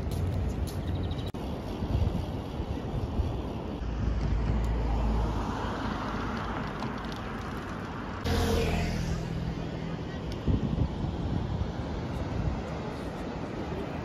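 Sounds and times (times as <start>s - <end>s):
steady traffic background: 0.0s - 14.0s.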